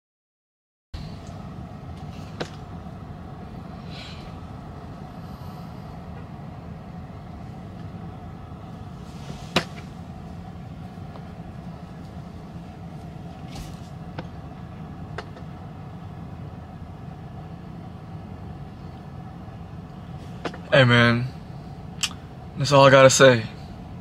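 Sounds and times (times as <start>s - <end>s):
car cabin hum and rumble: 1.0s - 24.0s.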